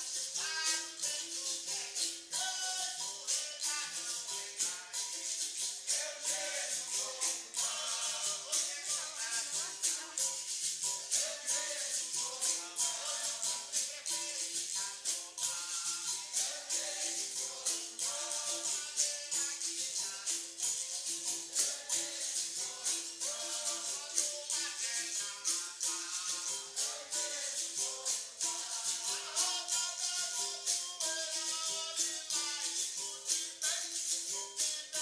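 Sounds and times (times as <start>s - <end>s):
berimbau: 0.0s - 35.0s
tambourine ticking: 0.0s - 35.0s
voices singing: 0.0s - 35.0s.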